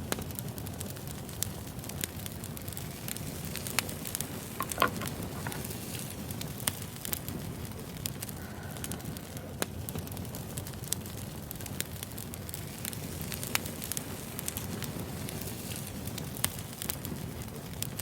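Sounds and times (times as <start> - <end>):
crackles and pops of logs: 0.0 - 8.4, 9.6 - 18.0
wood fire burning: 0.0 - 18.0.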